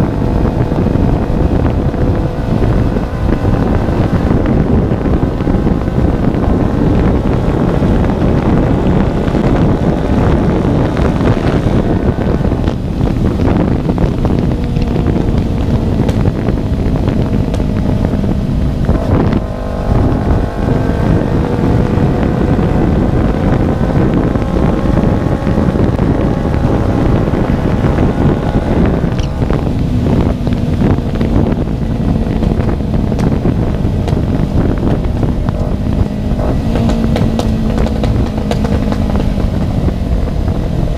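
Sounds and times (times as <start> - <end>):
loud motorcycle engine revving: 0.0 - 40.9
wind rushing over microphone: 0.0 - 40.9.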